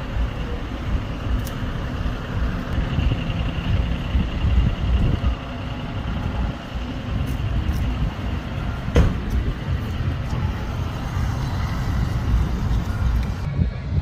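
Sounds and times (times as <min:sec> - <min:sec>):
low rumble of car traffic: 0:00.0 - 0:14.0.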